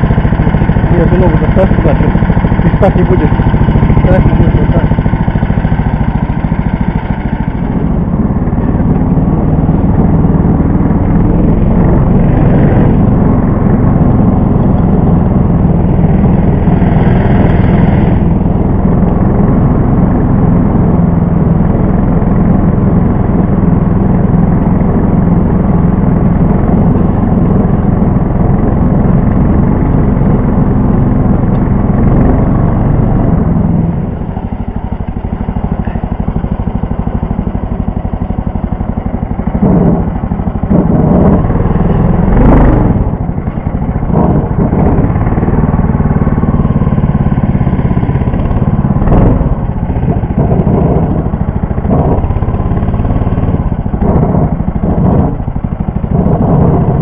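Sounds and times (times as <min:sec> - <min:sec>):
small engine running under load: 0:00.0 - 0:57.0.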